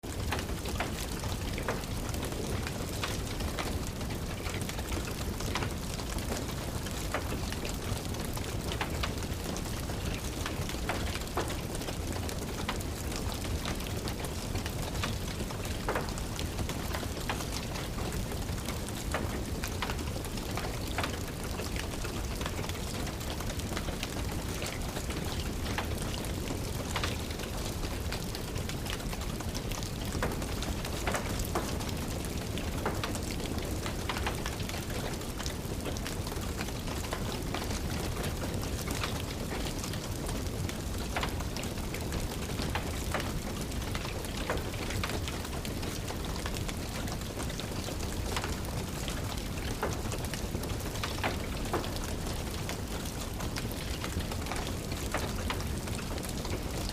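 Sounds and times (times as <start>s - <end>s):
steady rain: 0.0s - 56.9s
wood fire crackling: 0.0s - 56.9s.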